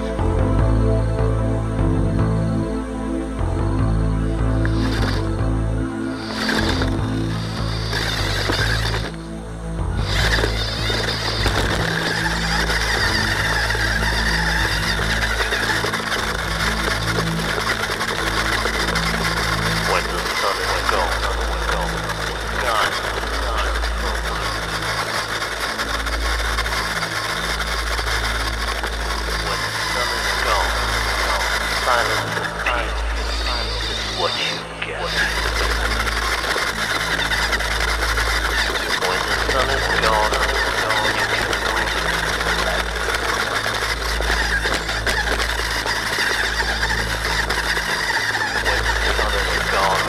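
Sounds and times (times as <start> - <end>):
toy rover electric motors humming: 0.0 - 0.8, 3.9 - 50.0.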